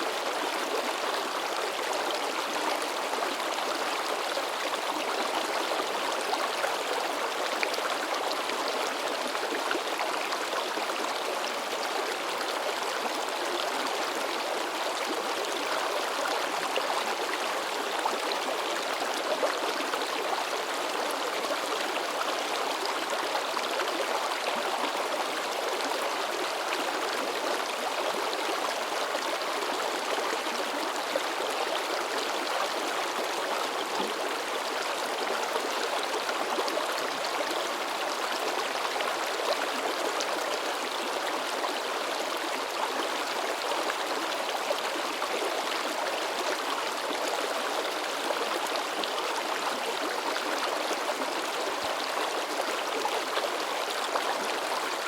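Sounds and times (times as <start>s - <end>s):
river water babbling and splashing: 0.0s - 55.0s.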